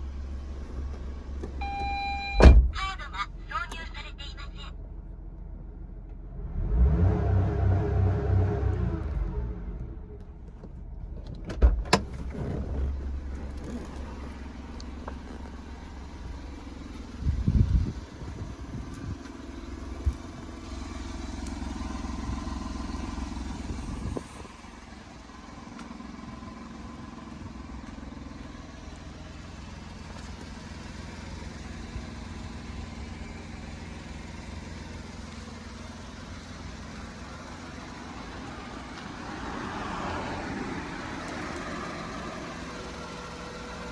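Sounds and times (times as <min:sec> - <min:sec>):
car engine starting and running: 0:00.0 - 0:43.9.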